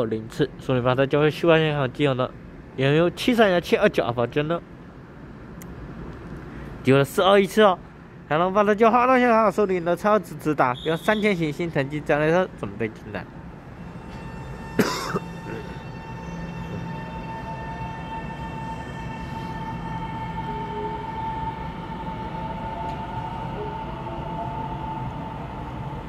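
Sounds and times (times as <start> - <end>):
electric train whine and rumble: 0.0 - 26.0.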